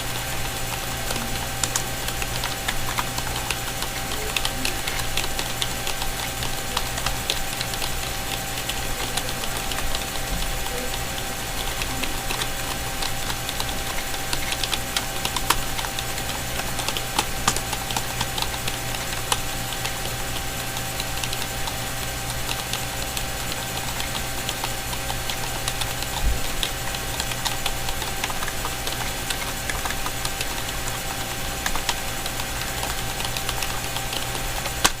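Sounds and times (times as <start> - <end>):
background hum: 0.0 - 35.0
fast typing on keyboard: 0.0 - 35.0.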